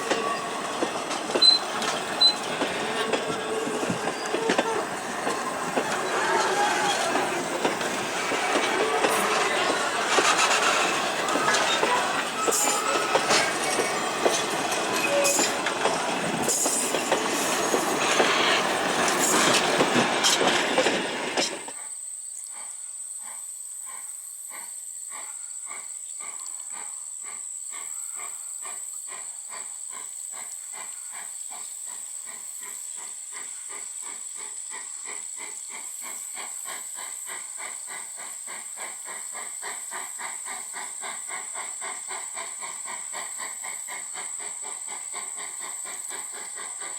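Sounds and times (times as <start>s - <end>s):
steam locomotive exhaust beats: 0.0s - 21.7s, 23.2s - 46.9s
train wheels clattering on rails: 0.0s - 21.8s, 27.2s - 46.9s.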